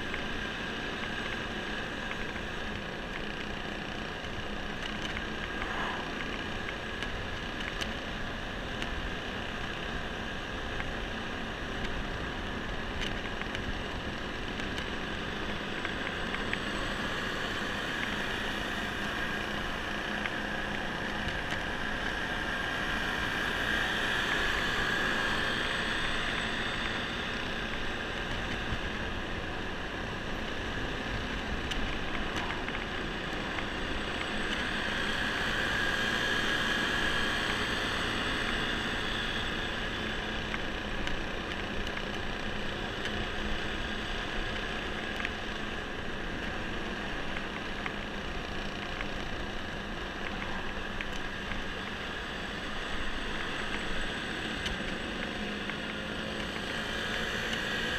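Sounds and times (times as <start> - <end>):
high engine whine: 0.0 - 57.9
scooter engine running: 0.0 - 57.9.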